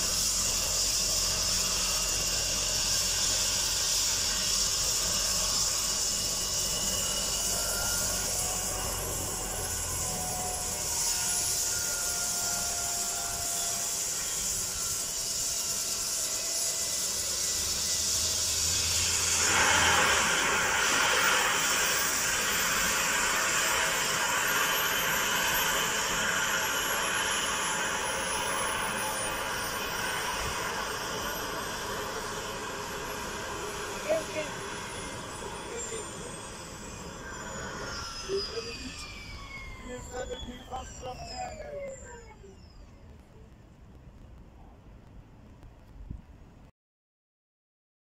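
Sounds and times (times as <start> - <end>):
helicopter rotor noise: 0.0 - 43.7
helicopter turbine whine: 0.0 - 46.6.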